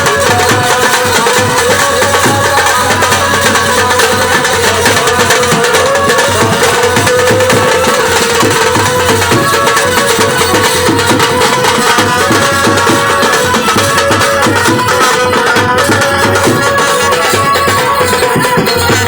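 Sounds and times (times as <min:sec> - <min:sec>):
folk music: 0:00.0 - 0:19.0
held melodic tones: 0:00.0 - 0:19.0
tabla drumming: 0:00.0 - 0:19.0.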